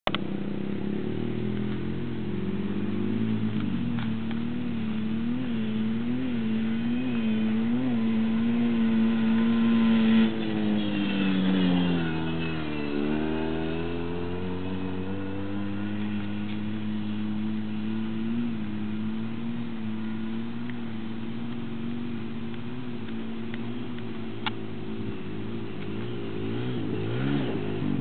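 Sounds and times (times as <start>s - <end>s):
quad engine revving: 0.6s - 28.0s.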